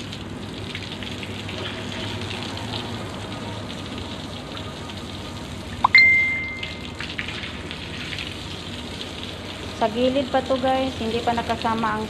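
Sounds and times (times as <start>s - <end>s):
water running from tap: 0.0s - 12.0s.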